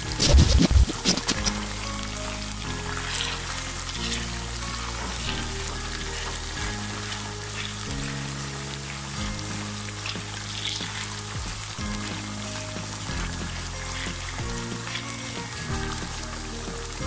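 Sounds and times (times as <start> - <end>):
potatoes sizzling in hot oil: 0.0 - 17.0
spatula stirring: 0.0 - 17.0.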